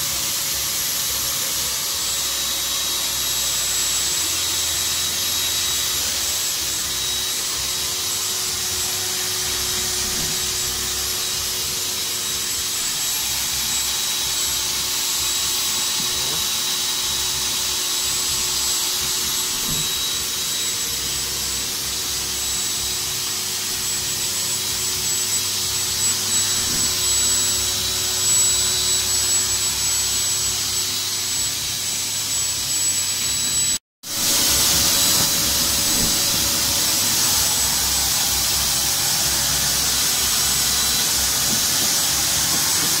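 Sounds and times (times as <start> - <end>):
electric air pump hissing: 0.0 - 43.0
thin high whine: 0.0 - 43.0.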